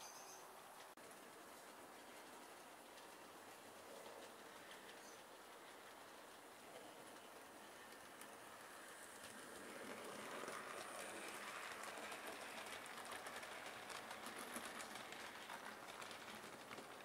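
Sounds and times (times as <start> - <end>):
model train rolling whirr: 0.8 - 17.0
rapid fine clicking of wheels: 0.8 - 17.0.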